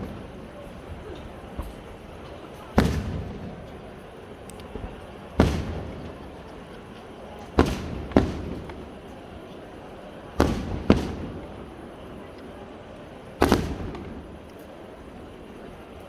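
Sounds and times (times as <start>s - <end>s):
fireworks bangs: 0.0s - 15.9s.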